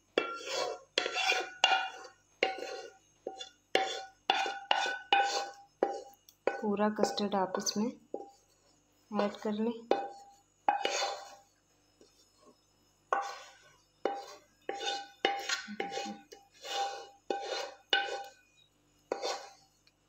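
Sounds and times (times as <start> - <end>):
wooden spatula scraping a pan: 0.0 - 18.4, 19.1 - 19.8.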